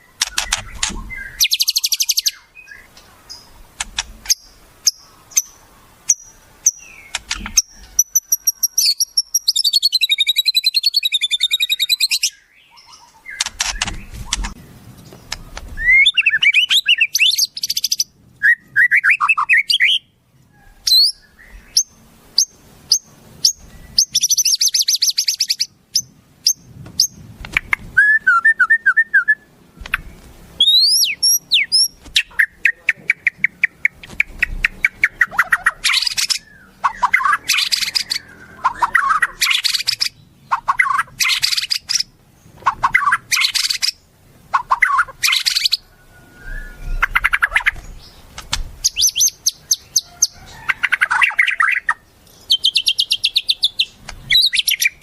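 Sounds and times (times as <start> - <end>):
wild bird calls and songs: 0.0 - 55.0.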